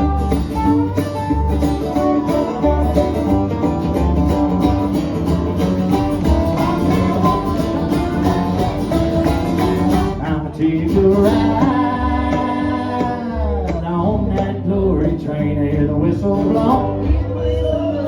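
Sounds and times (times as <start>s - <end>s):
acoustic country band playing: 0.0s - 18.0s
acoustic guitar: 0.0s - 18.0s.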